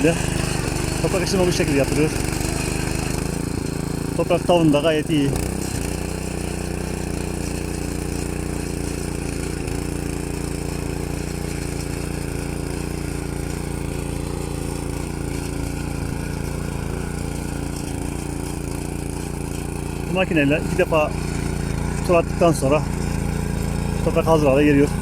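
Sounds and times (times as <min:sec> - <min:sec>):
tiller engine running: 0:00.0 - 0:25.0.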